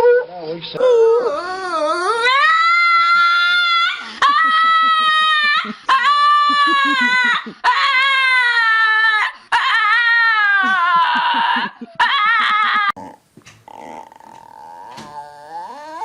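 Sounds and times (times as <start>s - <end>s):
dog howling: 0.8s - 16.0s.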